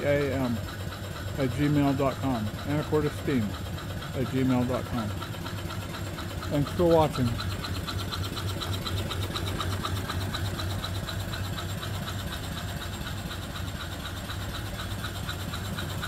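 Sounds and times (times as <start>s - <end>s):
steam engine ticking hum: 0.0s - 16.0s.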